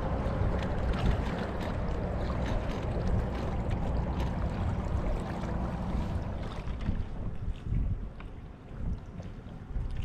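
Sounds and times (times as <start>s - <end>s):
small splashes: 0.0s - 8.4s
water lapping along kayak hull: 0.0s - 10.0s
wind rumble on microphone: 0.0s - 10.0s.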